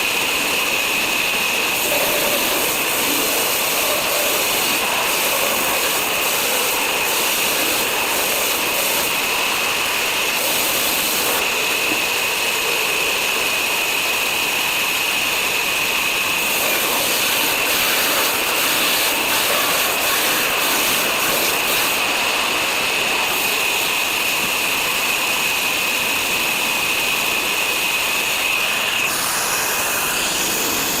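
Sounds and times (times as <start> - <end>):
saw machine high whine: 0.0 - 31.0.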